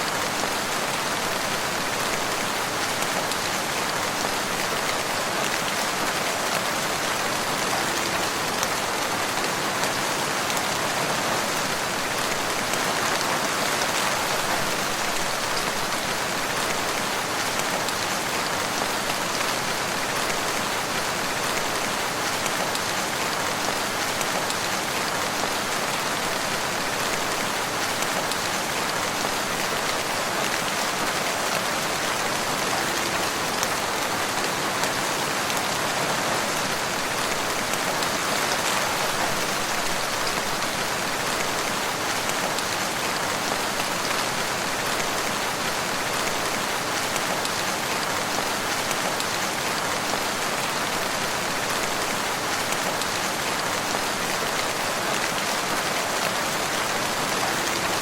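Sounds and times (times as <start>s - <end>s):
steady rain in woodland: 0.0s - 58.0s.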